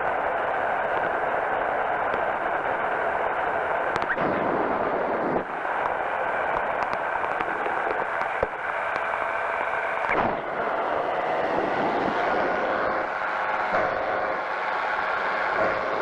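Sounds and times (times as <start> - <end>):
engine and propeller droning: 0.0 - 16.0.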